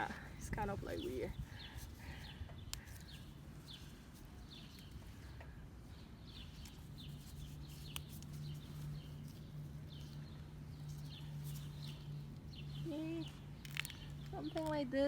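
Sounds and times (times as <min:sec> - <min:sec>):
bird chirping: 0:00.0 - 0:15.0
low steady hum: 0:00.0 - 0:15.0.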